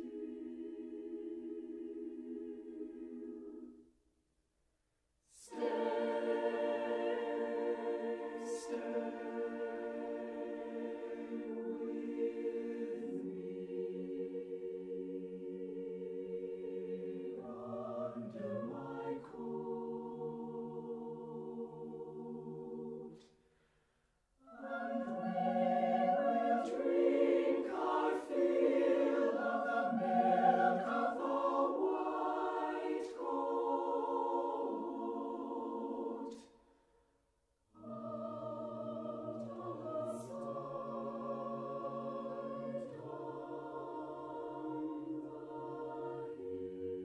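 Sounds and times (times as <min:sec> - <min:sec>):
choir singing a cappella: 0:00.0 - 0:03.9, 0:05.3 - 0:23.4, 0:24.4 - 0:36.8, 0:37.8 - 0:47.0.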